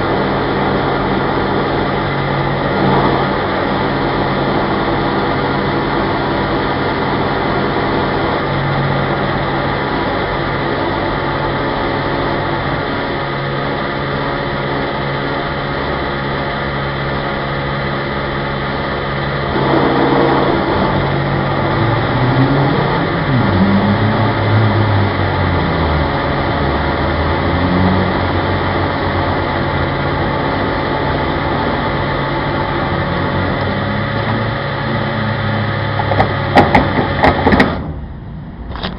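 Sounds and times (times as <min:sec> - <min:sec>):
fuel flowing: 0:00.0 - 0:38.9
fuel pump motor hum: 0:00.0 - 0:38.9.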